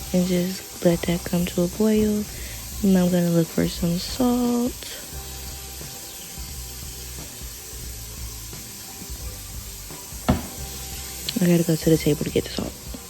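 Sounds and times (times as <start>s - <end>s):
soft background music: 0.0s - 13.0s
steady hiss: 0.0s - 13.0s.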